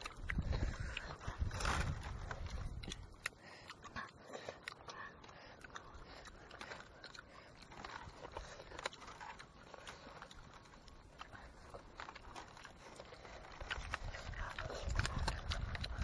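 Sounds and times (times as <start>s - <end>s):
chewing: 0.0s - 16.0s
people eating with their hands: 0.0s - 16.0s.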